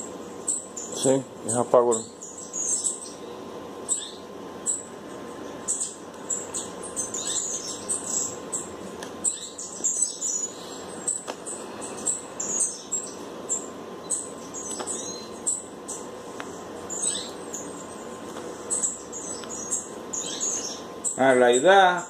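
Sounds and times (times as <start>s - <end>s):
faint steady hum: 0.0s - 22.0s
small birds chirping: 0.0s - 22.0s.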